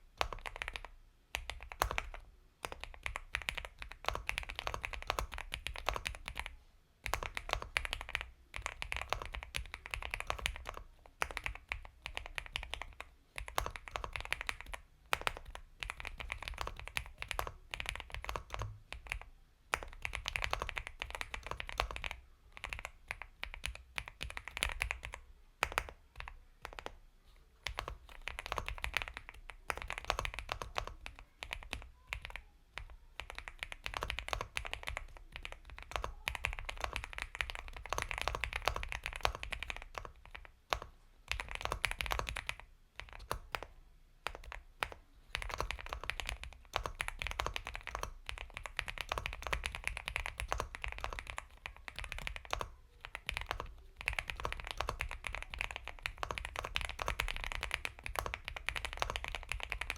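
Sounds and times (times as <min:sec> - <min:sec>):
mechanical keyboard typing: 0:00.2 - 0:27.0, 0:27.6 - 0:59.9.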